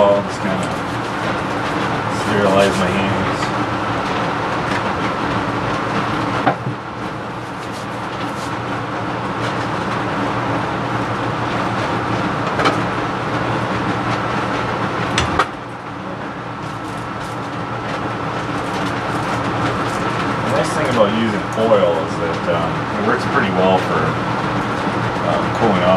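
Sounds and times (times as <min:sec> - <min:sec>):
blower humming: 0:00.0 - 0:25.9.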